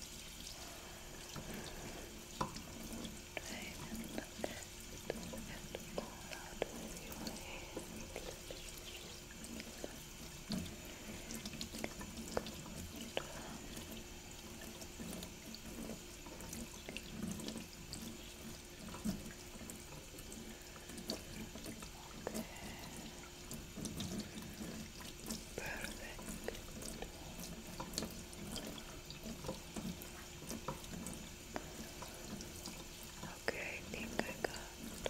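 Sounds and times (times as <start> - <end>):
tap water running into sink: 0.0 - 35.0
small wet clicks and splashes: 1.2 - 35.0.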